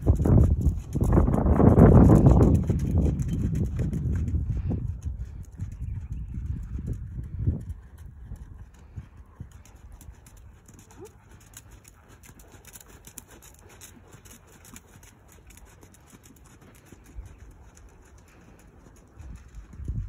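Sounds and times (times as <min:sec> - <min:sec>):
horse hoofbeats: 0:00.0 - 0:20.0.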